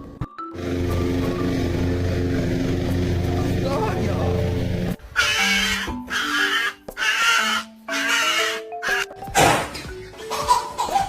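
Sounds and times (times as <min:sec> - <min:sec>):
background music melody: 0:00.0 - 0:11.0.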